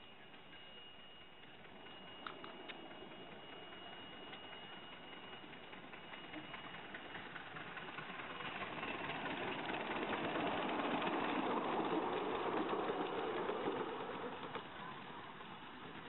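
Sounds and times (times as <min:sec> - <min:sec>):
miniature train clattering past: 0:00.0 - 0:16.0.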